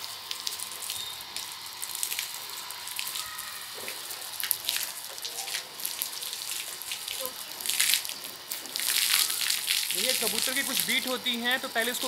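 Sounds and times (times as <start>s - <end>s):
hose water spraying hiss: 0.0s - 12.0s.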